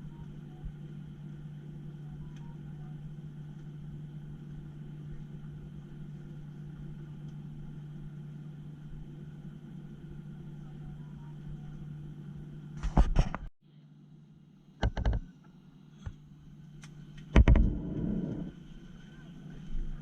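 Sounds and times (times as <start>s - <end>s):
low mechanical hum and rumble: 0.0s - 20.0s.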